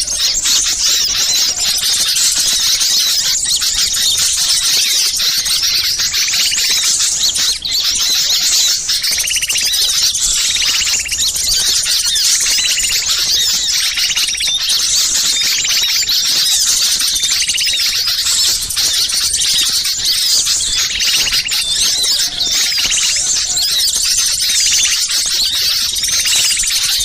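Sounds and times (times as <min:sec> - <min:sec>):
chorus of small songbirds: 0:00.0 - 0:27.0.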